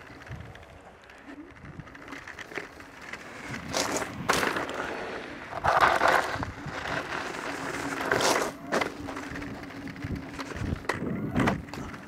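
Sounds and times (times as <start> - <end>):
scooter tyre noise on grass: 0.0 - 12.0.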